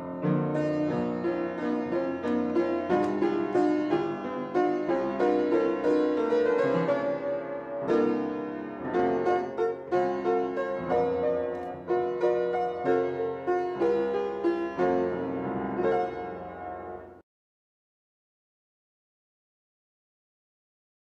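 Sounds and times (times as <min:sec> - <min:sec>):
solo keyboard music: 0:00.0 - 0:17.2.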